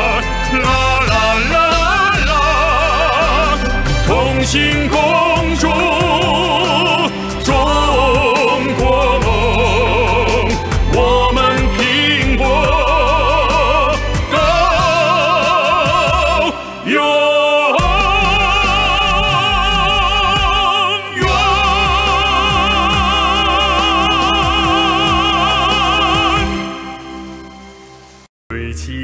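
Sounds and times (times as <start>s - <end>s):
operatic baritone singing: 0.0s - 27.6s, 28.5s - 29.0s
orchestral accompaniment: 0.0s - 28.3s.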